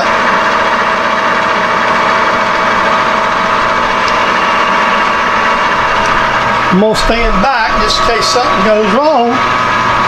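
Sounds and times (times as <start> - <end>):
lathe tool cutting metal: 0.0 - 10.0
metal lathe running: 0.0 - 10.0.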